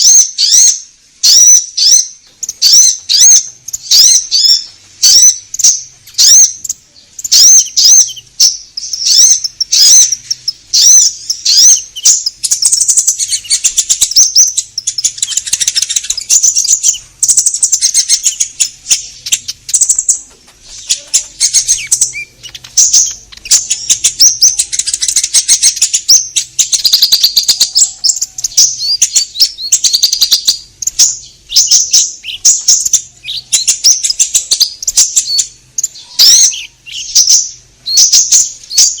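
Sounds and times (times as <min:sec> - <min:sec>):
bird singing chirps and trills: 0:00.0 - 0:39.0.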